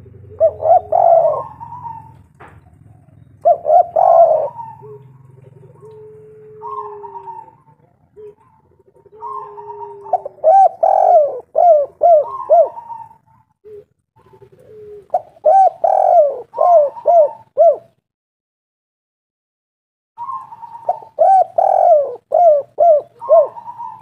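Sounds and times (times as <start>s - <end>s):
dove cooing: 0.0s - 18.0s, 20.2s - 24.0s.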